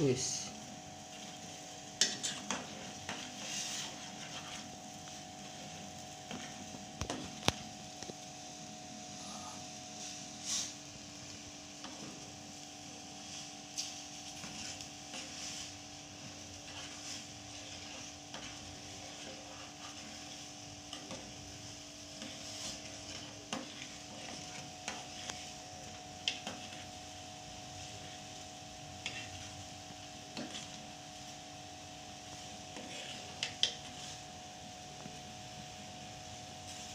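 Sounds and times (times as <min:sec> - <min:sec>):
steady hiss and low hum: 0:00.0 - 0:36.9.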